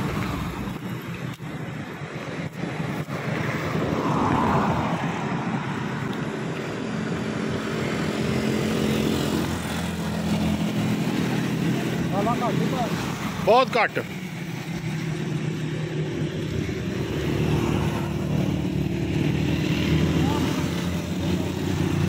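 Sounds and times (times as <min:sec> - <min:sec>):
steady engine hum: 0:00.0 - 0:22.0
vehicles passing: 0:00.0 - 0:22.0.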